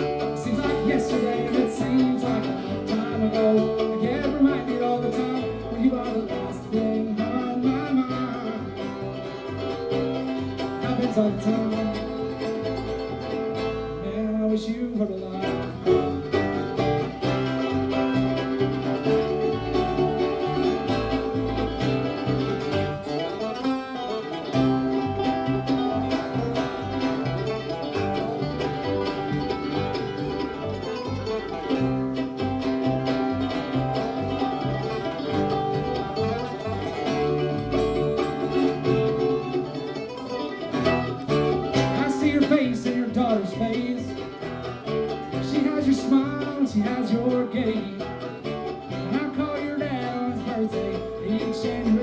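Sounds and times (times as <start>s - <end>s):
banjo picking: 0.0s - 52.0s
fiddle: 0.0s - 52.0s
guitar picking: 0.0s - 52.0s
upright bass line: 0.0s - 52.0s.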